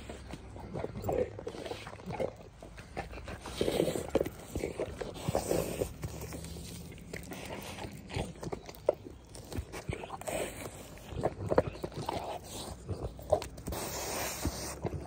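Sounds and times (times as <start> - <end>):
dog chewing and tearing bone: 0.0 - 15.0.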